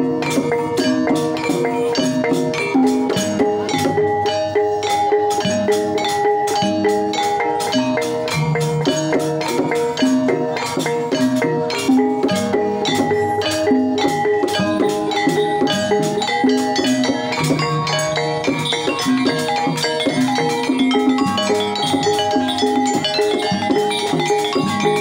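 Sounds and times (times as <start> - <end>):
hand drums: 0.0 - 25.0
metallophones struck with mallets: 0.0 - 25.0.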